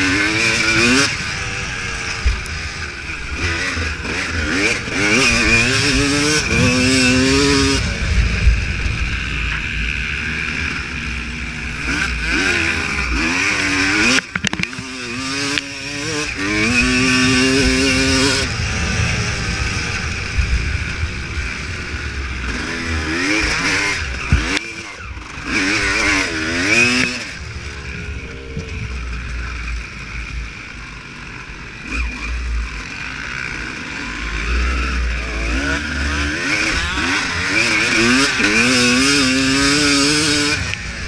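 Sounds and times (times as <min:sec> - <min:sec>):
motocross engine revving: 0:00.0 - 0:41.0.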